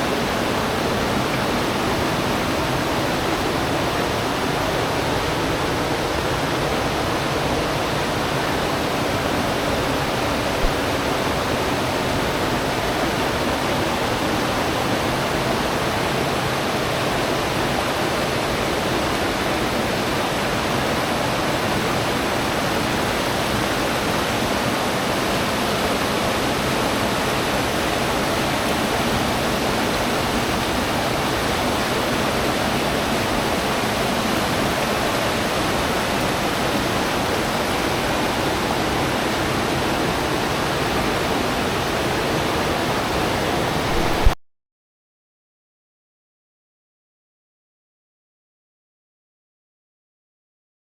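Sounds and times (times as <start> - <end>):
river water flowing over rocks: 0.0 - 44.4.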